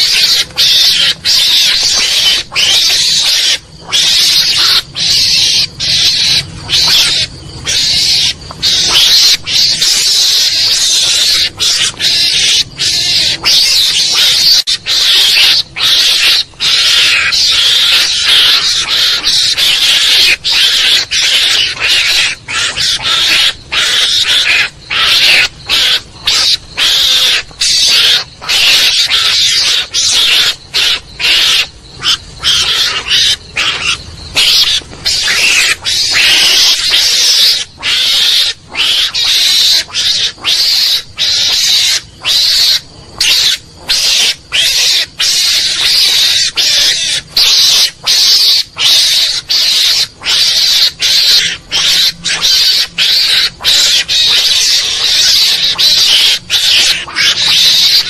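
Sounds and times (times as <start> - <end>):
mongoose raspy chattering calls: 0.0 - 58.0.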